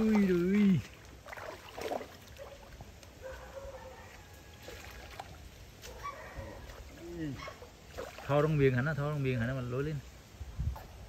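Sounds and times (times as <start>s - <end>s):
river water trickling and lapping: 0.0s - 11.0s.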